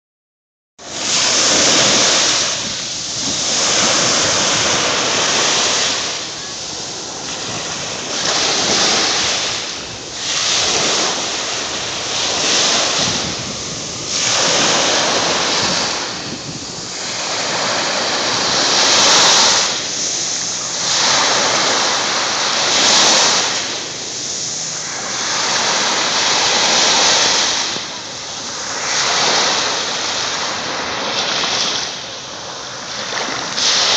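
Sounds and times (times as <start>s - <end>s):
small waves washing on sand: 0.8s - 33.9s.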